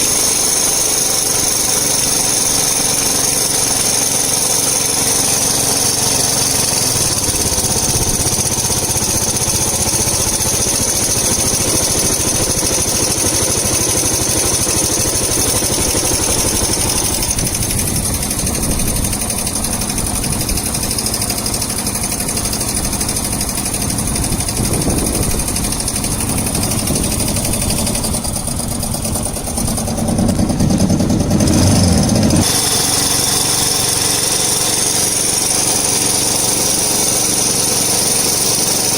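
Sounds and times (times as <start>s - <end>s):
engine knocking: 0.0s - 38.9s
motorcycle engine running: 0.0s - 38.9s.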